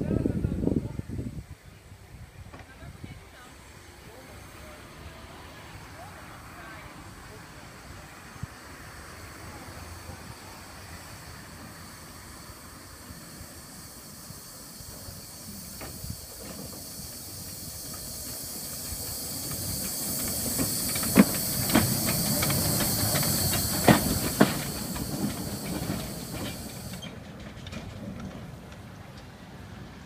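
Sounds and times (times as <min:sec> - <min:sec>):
steam locomotive hissing: 0:03.3 - 0:30.0.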